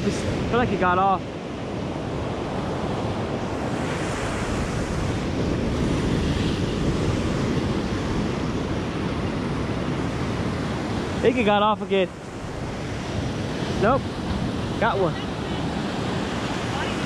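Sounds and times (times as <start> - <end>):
ocean surf breaking: 0.0 - 17.0
wind on the microphone: 0.0 - 17.0.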